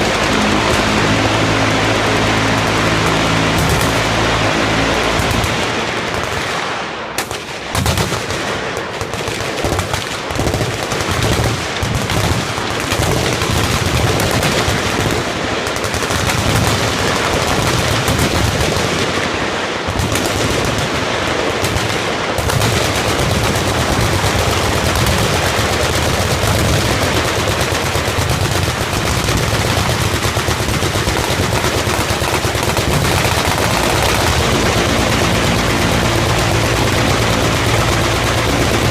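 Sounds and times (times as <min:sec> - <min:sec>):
machine guns firing: 0:00.0 - 0:38.9.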